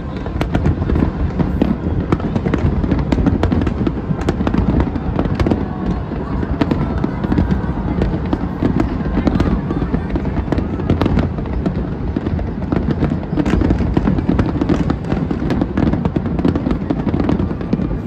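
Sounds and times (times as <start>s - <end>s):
firework crackles: 0.0s - 18.0s
firework shells booming: 0.0s - 18.0s.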